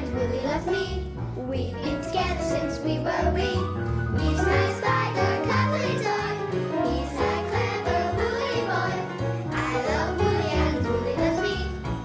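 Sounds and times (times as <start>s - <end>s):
children singing: 0.0s - 1.1s, 1.9s - 12.0s
cheerful children's music with bass: 0.0s - 12.0s.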